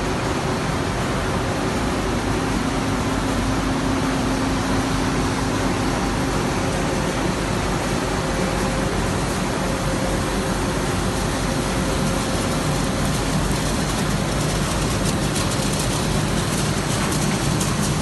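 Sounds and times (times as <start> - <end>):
printing press whir and rumble: 0.0 - 18.0.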